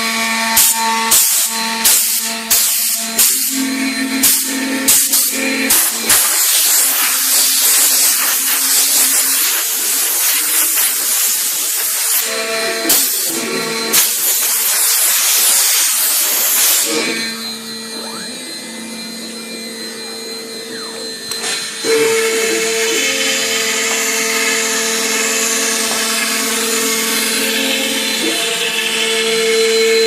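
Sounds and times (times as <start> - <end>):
router spindle whine: 0.0 - 30.0
router cutting board hiss: 0.5 - 18.6, 19.9 - 30.0.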